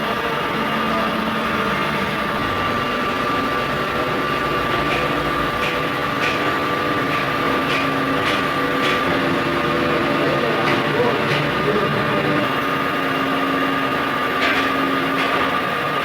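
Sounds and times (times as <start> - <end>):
grinding machine whine: 0.0 - 16.0.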